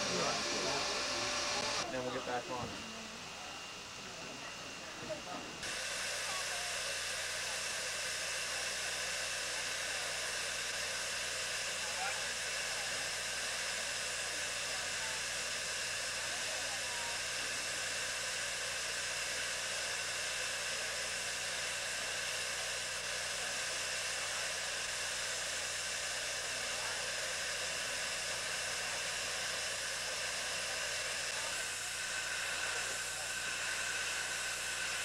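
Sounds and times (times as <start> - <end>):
steam hissing: 0.0 - 3.6, 4.2 - 35.0.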